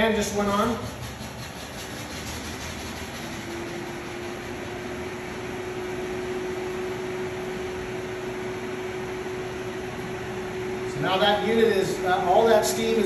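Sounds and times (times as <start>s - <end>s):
exhaust fan whirring: 0.0s - 13.0s.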